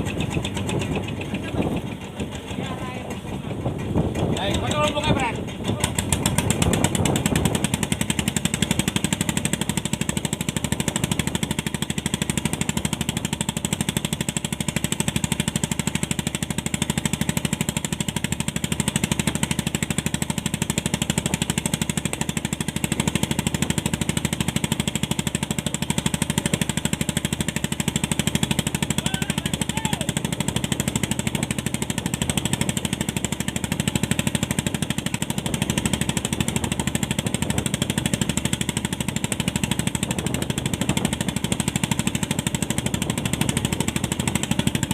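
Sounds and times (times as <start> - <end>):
boat engine chugging: 0.0 - 44.9.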